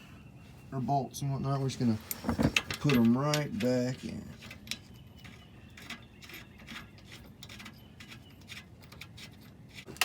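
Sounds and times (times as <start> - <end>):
light metal clicks and scrapes: 1.9 - 10.0.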